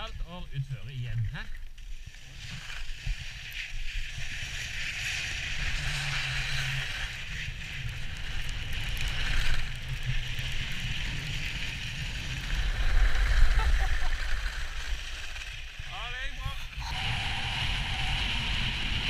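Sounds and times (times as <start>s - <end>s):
skis sliding over packed snow: 0.2s - 19.0s
wind rumbling on microphone: 2.2s - 19.0s.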